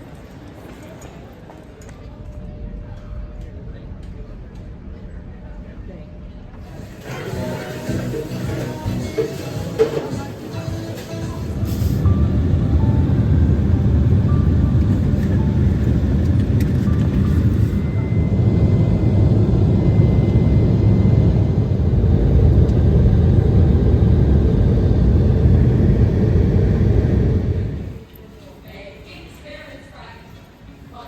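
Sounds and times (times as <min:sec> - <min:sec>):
vehicle rumbling in motion: 0:02.4 - 0:28.0.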